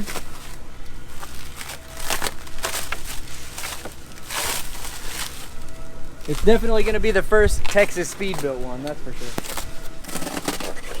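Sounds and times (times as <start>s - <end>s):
packaging crinkling and rustling: 0.0s - 11.0s
scratchy rasps: 0.0s - 11.0s.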